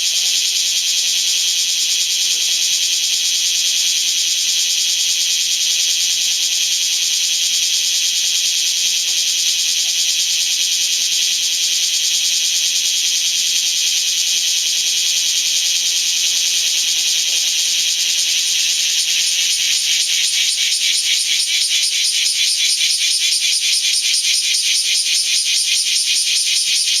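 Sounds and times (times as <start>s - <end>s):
cicadas buzzing chorus: 0.0s - 27.0s
fast pulsing cicada rhythm: 0.0s - 27.0s.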